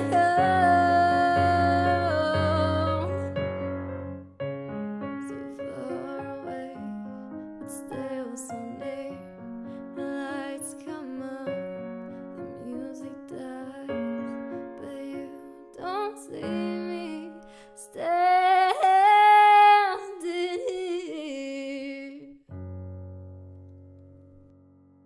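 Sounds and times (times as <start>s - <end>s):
young woman singing: 0.0s - 3.4s, 5.2s - 22.4s.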